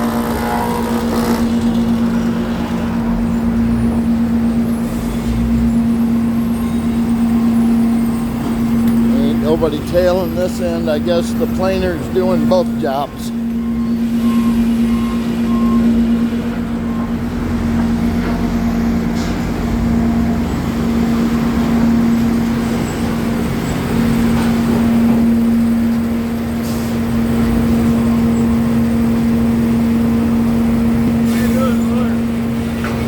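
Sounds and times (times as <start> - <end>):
board planer machine hum: 0.0 - 33.0.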